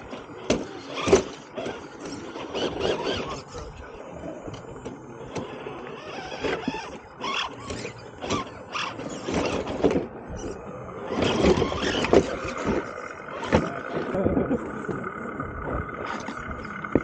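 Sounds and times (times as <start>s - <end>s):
faint motor whine: 0.0s - 17.0s
tyres grinding over rock: 0.0s - 17.0s.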